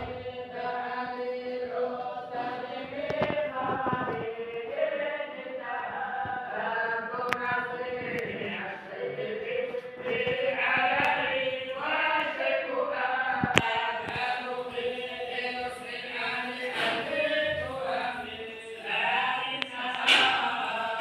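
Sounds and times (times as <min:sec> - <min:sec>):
voices chanting in unison: 0:00.0 - 0:21.0.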